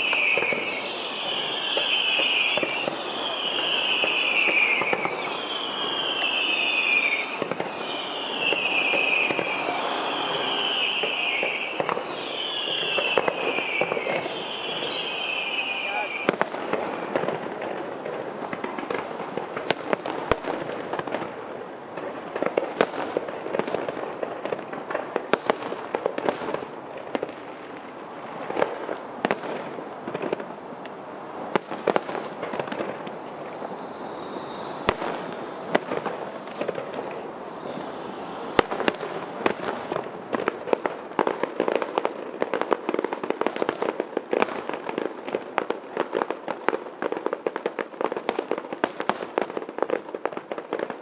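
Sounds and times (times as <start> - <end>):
fireworks bangs: 0.0 - 51.0
fireworks crackling: 0.0 - 51.0.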